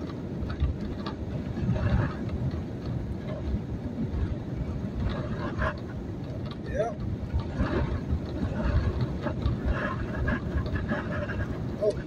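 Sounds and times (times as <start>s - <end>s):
road and wind noise in truck cab: 0.0s - 12.0s.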